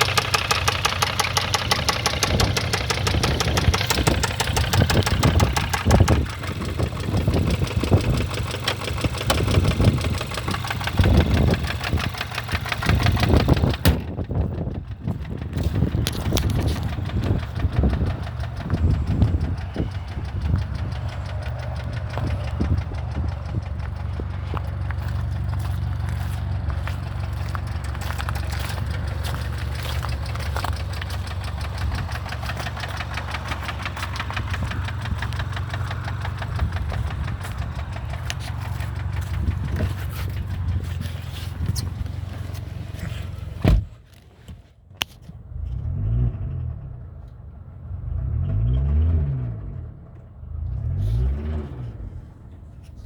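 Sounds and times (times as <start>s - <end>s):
car engine knocking: 0.0s - 44.0s
low rumbling: 0.0s - 44.0s.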